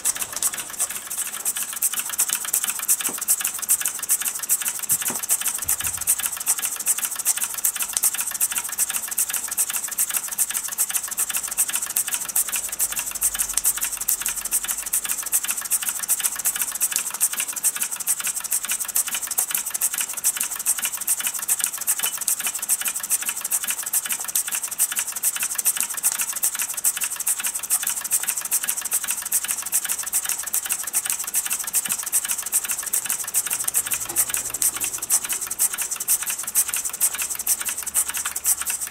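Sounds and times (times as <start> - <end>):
model steam engine running fast: 0.0 - 38.9.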